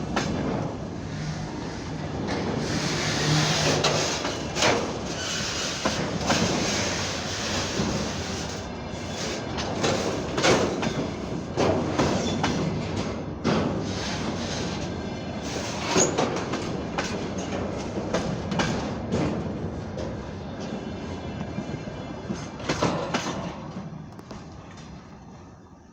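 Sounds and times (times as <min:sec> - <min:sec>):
train wheels clacking on rail joints: 0:00.0 - 0:25.1
freight train rumble: 0:00.0 - 0:25.9.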